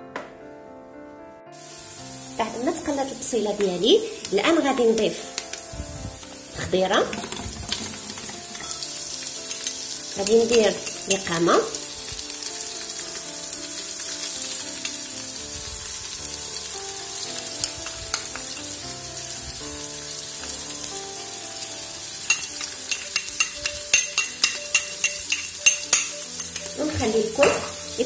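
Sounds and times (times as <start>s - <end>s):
vegetables sizzling in oil: 1.6s - 28.0s.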